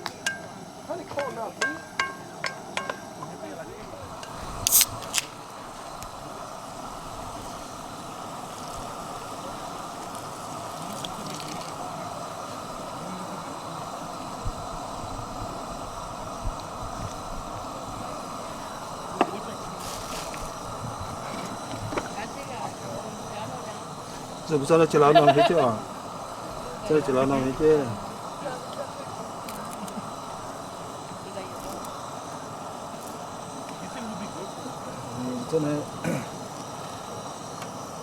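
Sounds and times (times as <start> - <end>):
running water hissing: 0.0 - 38.0.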